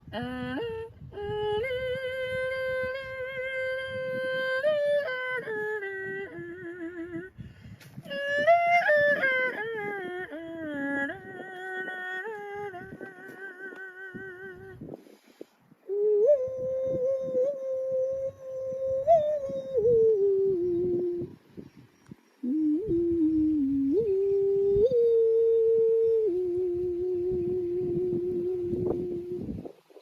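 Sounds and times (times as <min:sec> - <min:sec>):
person singing long notes: 0:00.0 - 0:07.4, 0:08.0 - 0:14.9, 0:15.8 - 0:21.4, 0:22.4 - 0:29.6.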